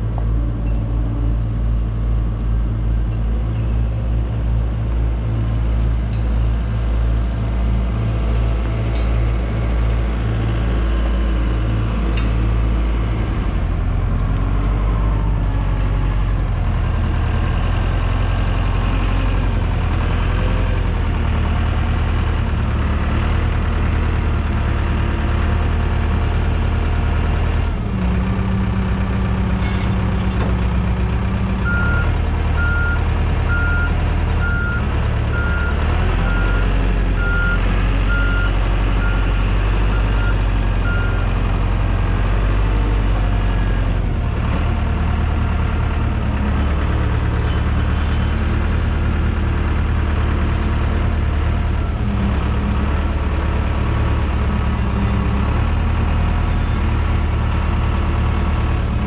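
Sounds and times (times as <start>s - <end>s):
heavy equipment diesel engines: 0.0s - 59.0s.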